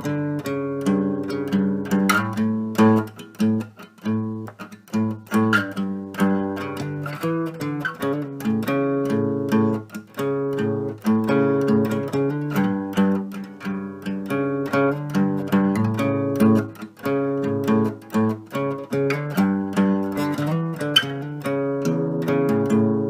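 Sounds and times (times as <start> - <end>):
plucked string instrumental music: 0.0 - 23.0.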